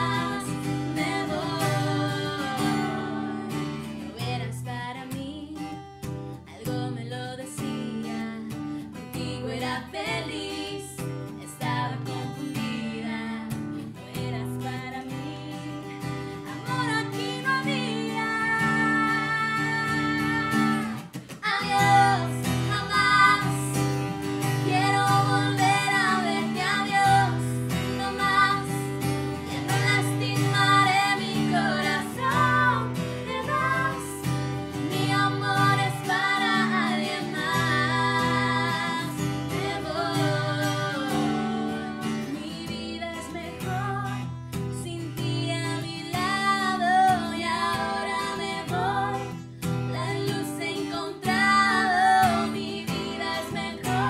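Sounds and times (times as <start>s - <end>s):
women singing together: 0.0s - 5.6s, 6.5s - 54.0s
strummed acoustic guitar: 0.0s - 54.0s.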